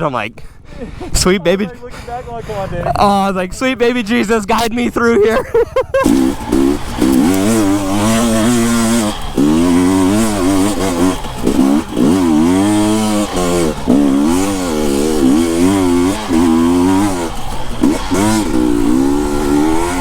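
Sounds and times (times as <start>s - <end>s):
dirt bike engine revving: 1.6s - 20.0s.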